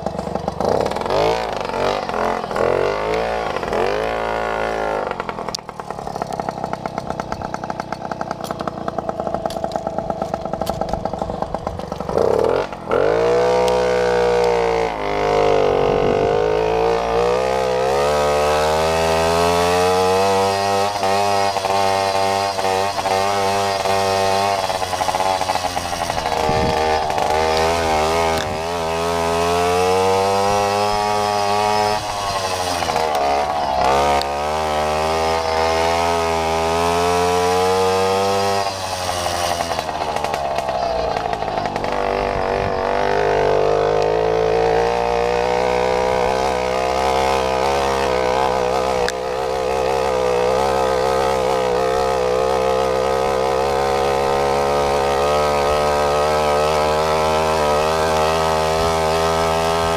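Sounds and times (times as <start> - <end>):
moped engine revving: 0.0 - 59.9.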